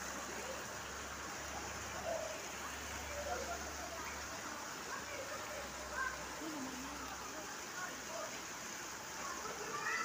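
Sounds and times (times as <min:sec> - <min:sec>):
faint distant voices: 0:00.0 - 0:10.0
running splashing water: 0:00.0 - 0:10.0.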